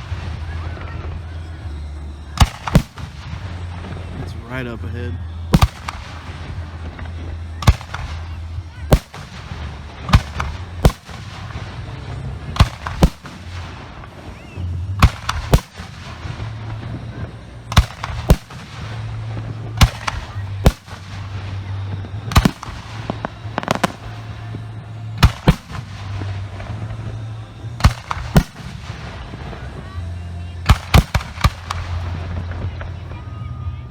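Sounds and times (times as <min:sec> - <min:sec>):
firework shells exploding: 0:00.0 - 0:33.4
steady low hum: 0:00.0 - 0:33.9.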